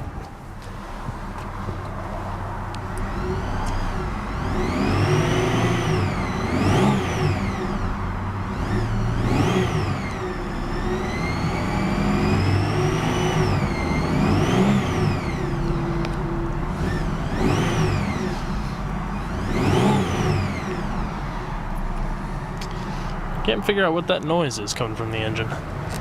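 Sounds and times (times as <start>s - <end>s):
car engine revving: 0.8s - 24.2s.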